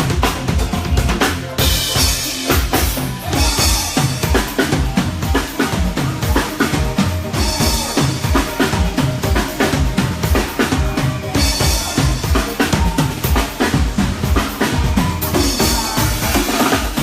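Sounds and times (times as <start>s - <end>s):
band instruments: 0.0s - 17.0s
drum kit playing a driving beat: 0.0s - 17.0s.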